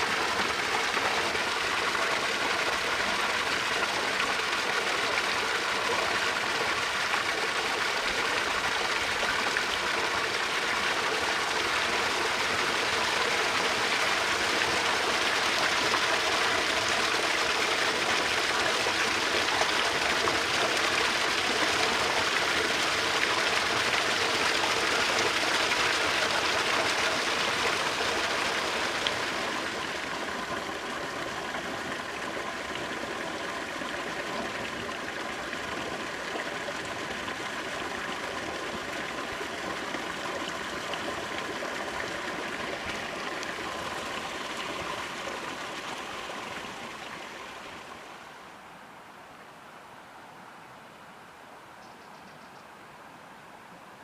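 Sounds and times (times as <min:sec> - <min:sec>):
water rushing and babbling: 0:00.0 - 0:51.8.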